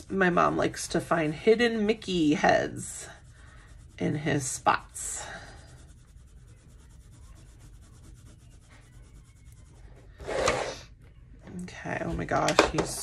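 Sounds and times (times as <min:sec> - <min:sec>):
pencil scratching on paper: 0:00.0 - 0:10.8.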